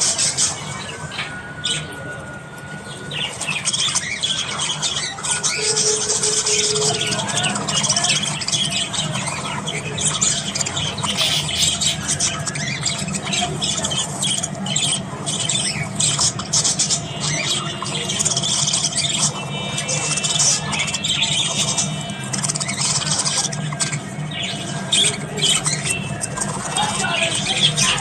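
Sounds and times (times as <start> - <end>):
budgerigars chattering and squawking: 0.0 - 28.0.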